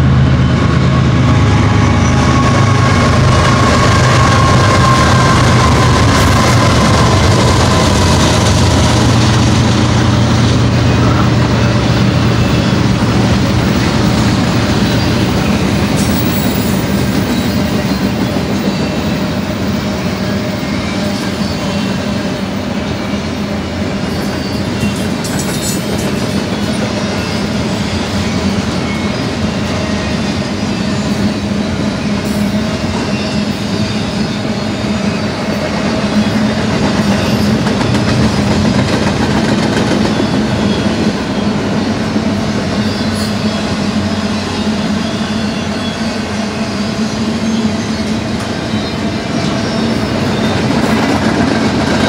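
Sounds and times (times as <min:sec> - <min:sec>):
diesel locomotive engine drone: 0:00.0 - 0:52.0
freight train wheels rolling: 0:00.0 - 0:52.0.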